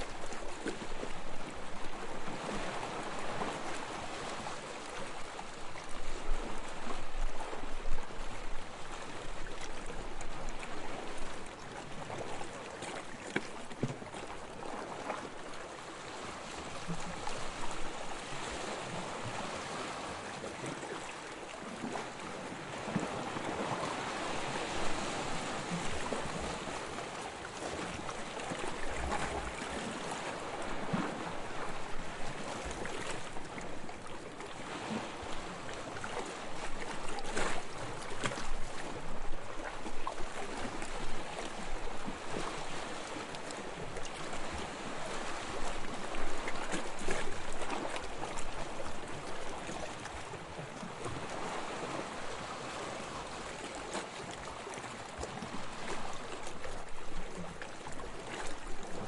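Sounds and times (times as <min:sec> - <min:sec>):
sea water lapping: 0:00.0 - 0:59.0.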